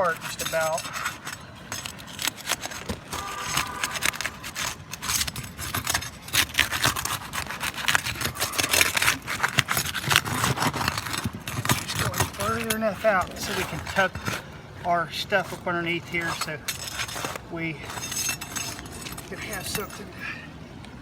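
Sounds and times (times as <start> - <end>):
shingles cracking: 0.0 - 21.0
shingles scraping: 0.0 - 21.0.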